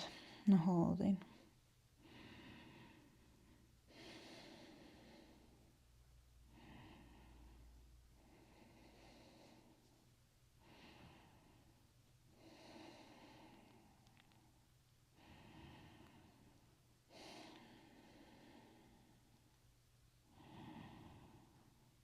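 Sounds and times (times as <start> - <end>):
faint slow breathing: 1.2 - 22.0.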